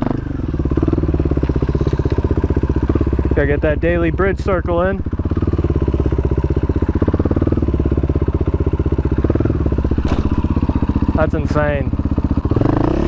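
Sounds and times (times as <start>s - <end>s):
motorcycle engine running at low revs: 0.0s - 13.0s.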